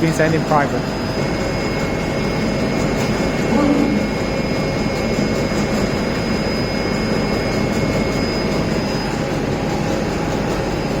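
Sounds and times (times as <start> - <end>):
loud machinery running: 0.0 - 11.0.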